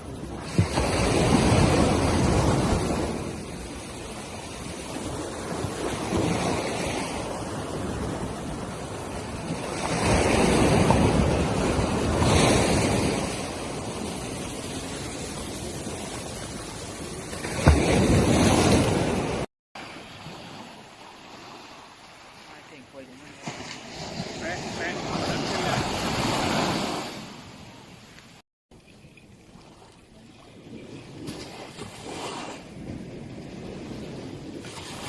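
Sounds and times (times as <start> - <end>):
sea surf washing onto beach: 0.0 - 28.3.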